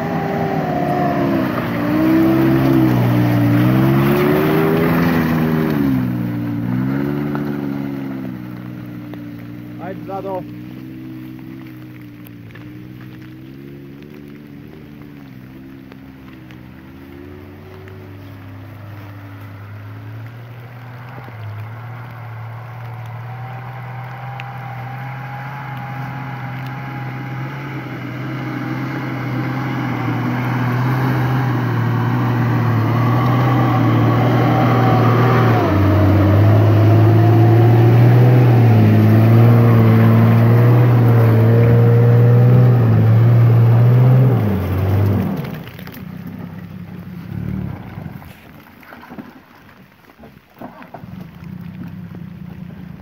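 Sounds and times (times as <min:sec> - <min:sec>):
diesel engine under load: 0:00.0 - 0:53.0.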